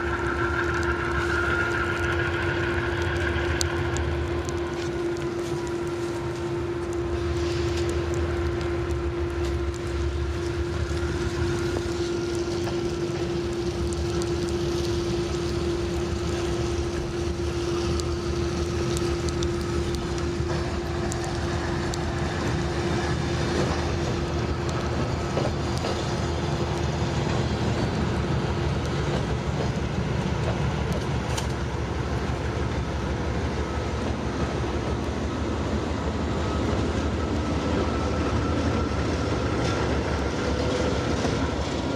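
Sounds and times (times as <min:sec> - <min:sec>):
constant whining tone: 0:00.0 - 0:41.9
train rumbling past: 0:00.0 - 0:41.9.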